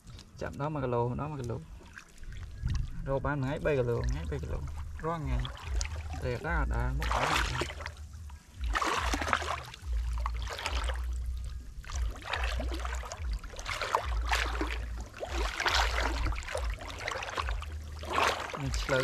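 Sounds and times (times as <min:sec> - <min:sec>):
water splashing and sloshing: 0:00.0 - 0:19.0
low rumble: 0:01.0 - 0:19.0.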